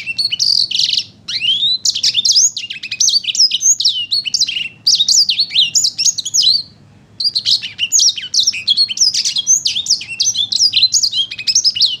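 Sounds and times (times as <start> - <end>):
songbird warbling: 0.0 - 12.0.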